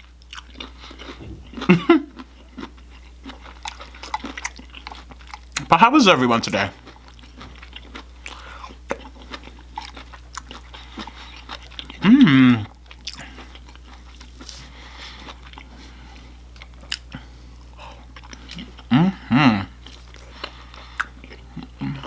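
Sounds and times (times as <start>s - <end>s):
chewing and crunching food: 0.0s - 22.0s.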